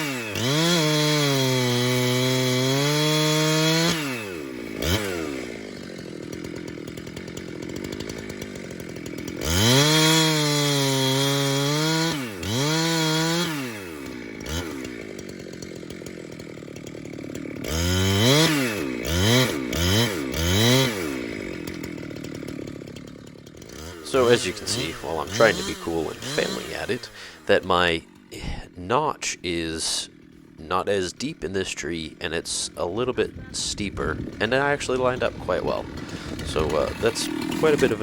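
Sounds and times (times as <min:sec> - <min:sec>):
chainsaw revving and idling: 0:00.0 - 0:38.0.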